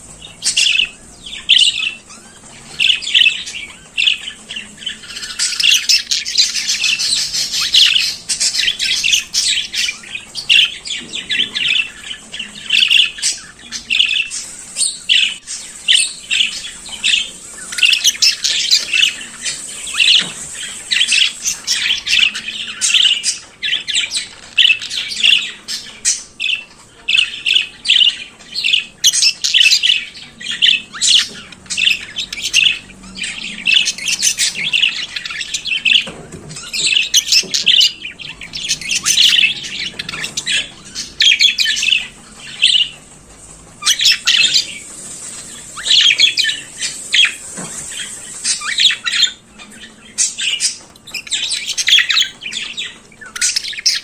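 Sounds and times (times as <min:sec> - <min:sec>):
budgerigar warbling and chirping: 0:00.0 - 0:54.0.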